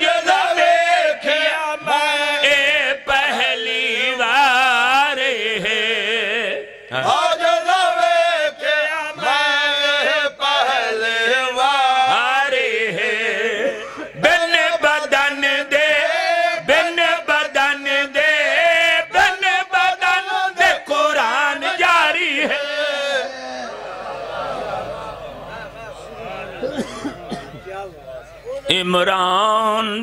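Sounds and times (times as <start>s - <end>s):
men chanting: 0.0s - 29.4s.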